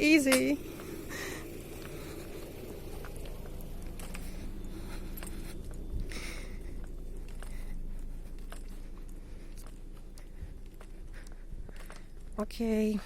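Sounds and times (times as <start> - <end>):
footsteps on road: 0.0 - 13.0.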